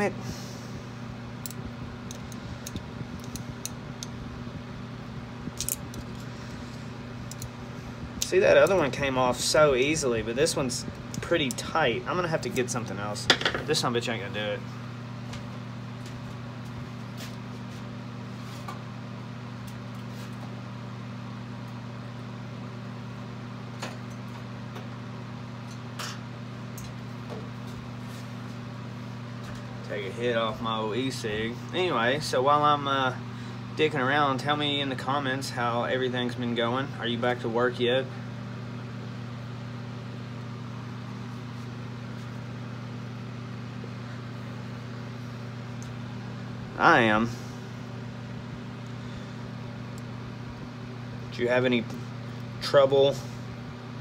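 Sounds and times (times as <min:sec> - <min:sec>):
electric fan hum: 0:00.0 - 0:54.0.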